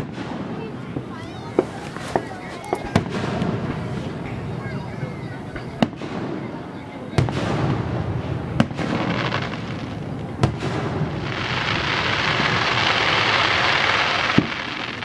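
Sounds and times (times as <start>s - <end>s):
fireworks sharp bangs: 0.0s - 15.0s
loud steady hiss: 0.0s - 15.0s.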